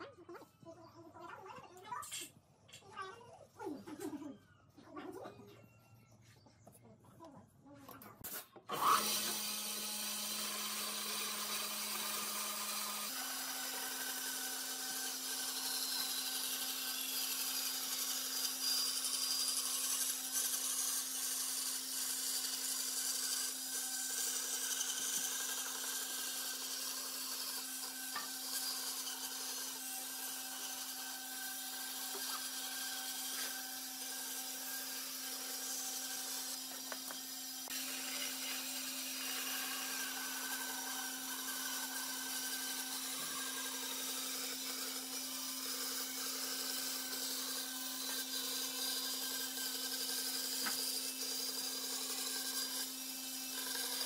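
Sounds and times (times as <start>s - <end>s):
band saw cutting wood: 8.2s - 54.0s
band saw motor hum: 8.7s - 54.0s.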